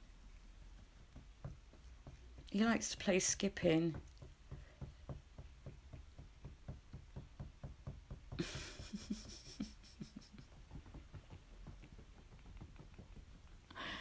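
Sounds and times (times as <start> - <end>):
rapid soft knocking: 0.5 - 14.0.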